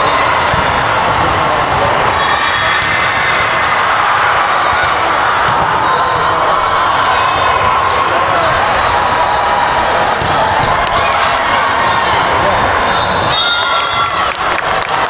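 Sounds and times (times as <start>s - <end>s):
crowd noise in gym: 0.0s - 15.0s
volleyballs hit and bouncing: 0.2s - 15.0s.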